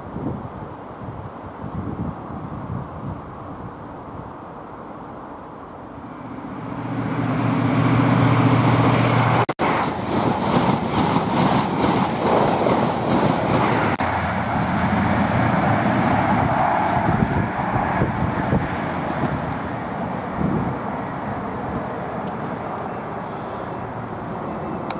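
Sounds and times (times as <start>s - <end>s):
train passing with low drone: 0.0s - 24.9s.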